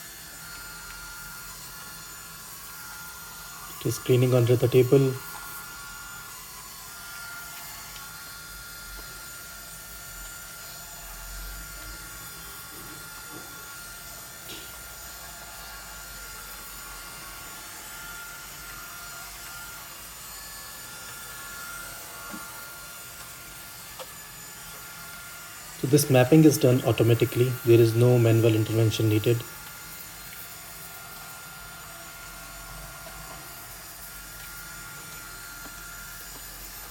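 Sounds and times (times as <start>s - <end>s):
robot vacuum motor whirring: 0.0s - 15.0s, 15.7s - 36.9s.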